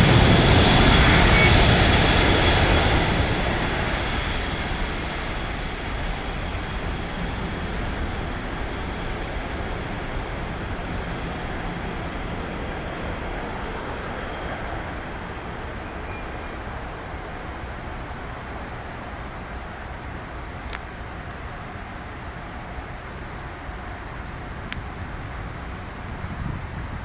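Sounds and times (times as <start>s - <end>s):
jet engine roar: 0.0s - 27.0s.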